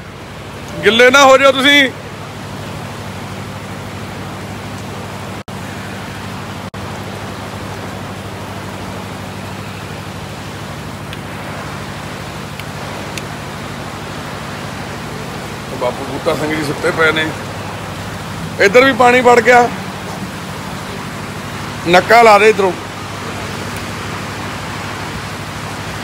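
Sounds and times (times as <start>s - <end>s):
rain pouring: 0.0s - 26.0s
steady low hum: 0.0s - 26.0s.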